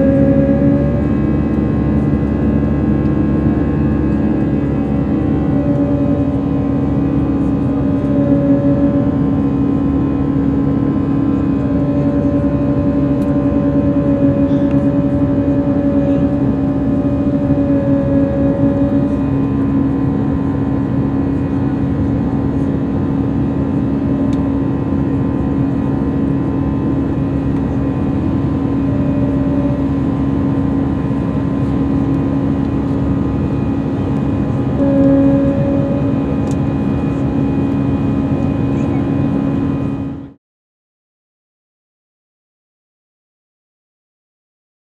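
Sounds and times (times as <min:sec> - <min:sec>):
higher engine tone: 0:00.0 - 0:40.4
jet engines droning: 0:00.0 - 0:40.4
low hum: 0:00.0 - 0:40.4.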